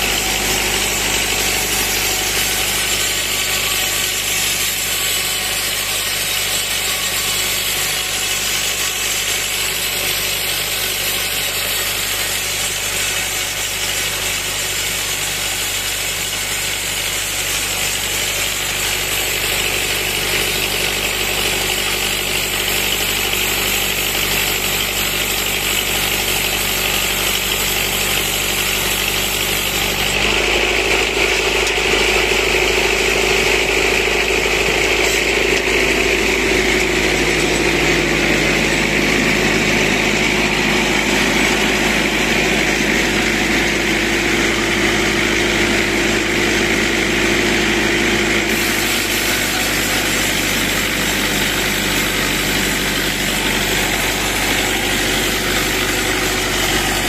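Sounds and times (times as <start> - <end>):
diesel engine under load: 0.0 - 57.0
saw cutting through log: 0.0 - 57.0.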